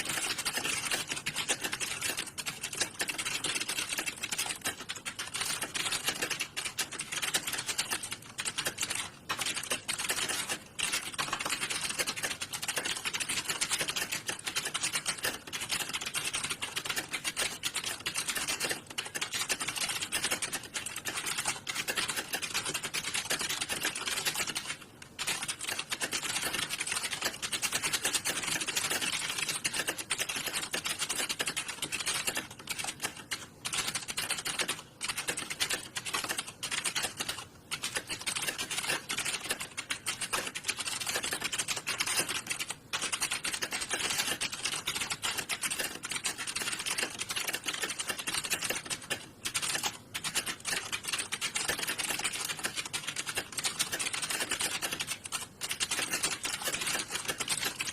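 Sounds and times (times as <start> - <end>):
fast keyboard typing: 0.0 - 57.9.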